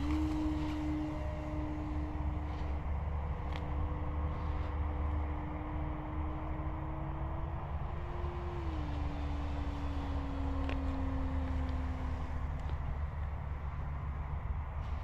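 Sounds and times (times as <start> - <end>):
electric model plane motor humming: 0.0 - 14.6.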